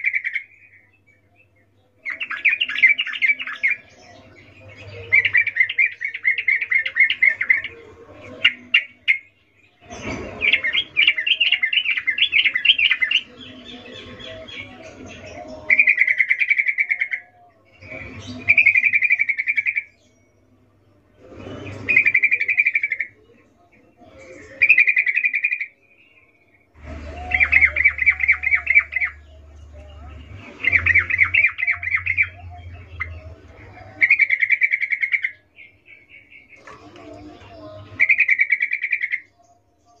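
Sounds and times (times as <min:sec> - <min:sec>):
bird calling in rapid chirps: 0:00.0 - 0:20.3, 0:21.6 - 0:23.3, 0:24.4 - 0:39.4.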